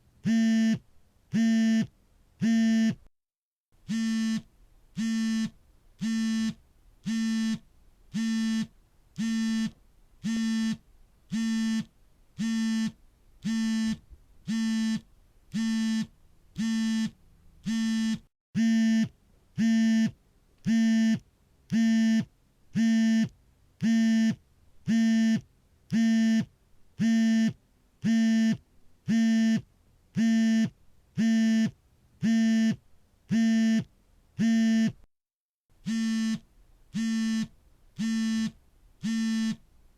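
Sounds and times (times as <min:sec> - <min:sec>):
phone vibrating buzzes: 0:00.2 - 0:00.8, 0:01.4 - 0:03.0, 0:03.8 - 0:35.0, 0:35.8 - 0:39.6.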